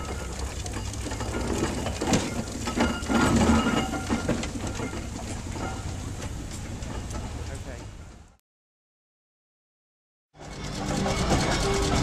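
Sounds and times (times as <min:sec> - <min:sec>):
clanking of wheels: 0:00.0 - 0:08.4, 0:10.4 - 0:12.0
steam engine chuffing rumble: 0:00.0 - 0:08.4, 0:10.4 - 0:12.0.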